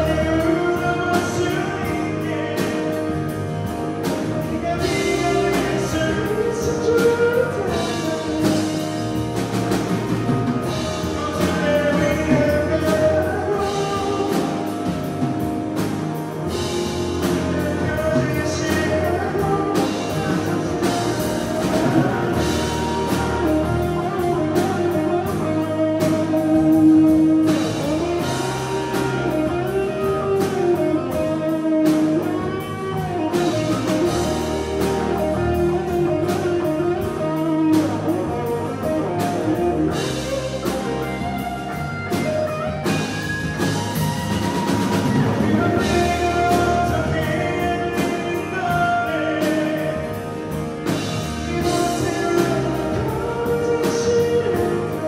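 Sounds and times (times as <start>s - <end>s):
live rock band playing: 0.0s - 55.0s
sliding melodic line: 0.0s - 55.0s.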